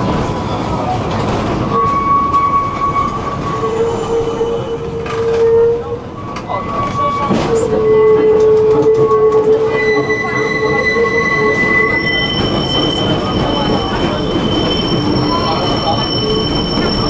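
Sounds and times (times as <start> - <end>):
tram running gear rumble: 0.0 - 17.0
tram wheels squealing on rails: 0.0 - 17.0.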